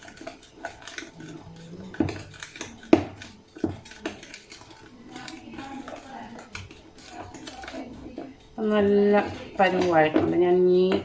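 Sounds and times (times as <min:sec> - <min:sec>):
utensil scraping mixing bowl: 0:00.0 - 0:11.0.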